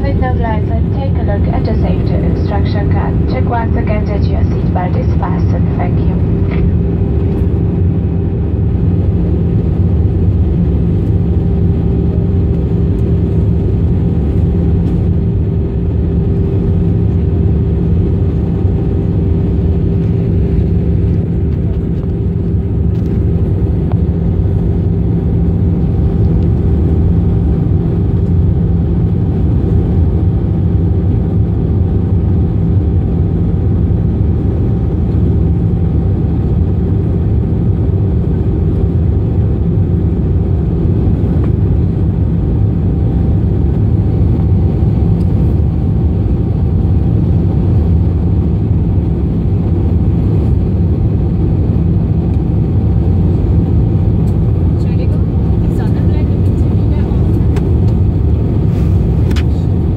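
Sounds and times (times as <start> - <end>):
airplane engine and airflow drone: 0.0 - 59.9
steady humming tones: 0.0 - 59.9.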